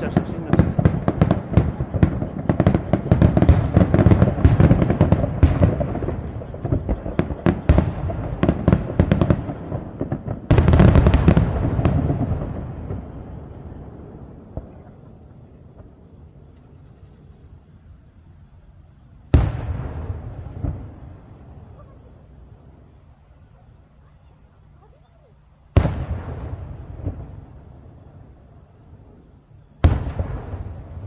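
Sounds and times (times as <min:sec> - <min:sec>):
fireworks bursting: 0:00.0 - 0:16.9, 0:19.3 - 0:23.1, 0:25.7 - 0:31.0.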